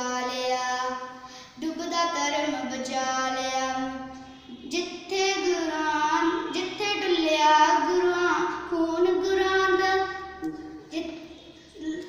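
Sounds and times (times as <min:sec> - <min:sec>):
girl singing unaccompanied: 0:00.0 - 0:12.0.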